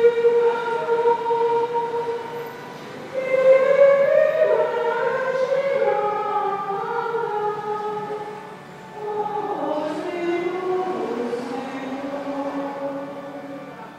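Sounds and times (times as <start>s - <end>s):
women's choir singing a hymn: 0.0s - 13.9s.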